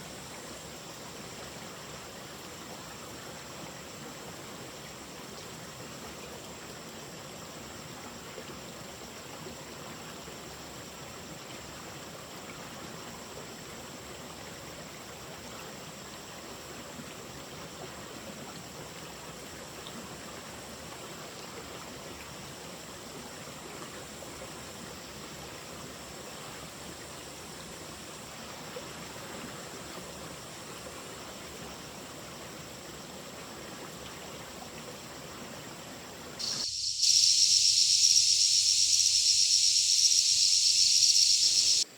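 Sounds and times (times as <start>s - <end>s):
running water: 0.0s - 41.9s.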